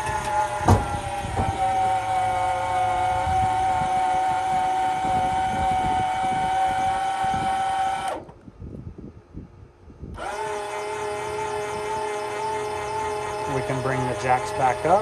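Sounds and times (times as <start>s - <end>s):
electric motor whine: 0.0s - 8.4s, 10.1s - 15.0s.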